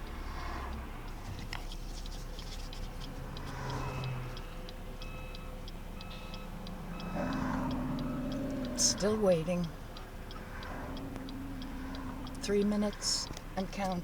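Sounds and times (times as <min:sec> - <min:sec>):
car idling hum: 0:00.0 - 0:14.0
turn signal ticking: 0:00.0 - 0:14.0.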